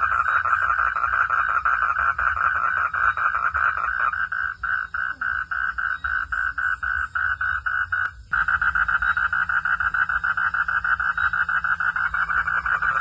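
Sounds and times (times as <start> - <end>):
frog calling in pulsed notes: 0.0 - 13.0.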